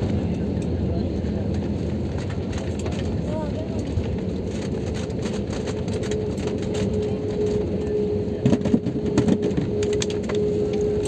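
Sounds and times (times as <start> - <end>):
engine and wheel rumble: 0.0 - 11.0
steady whine: 0.0 - 11.0.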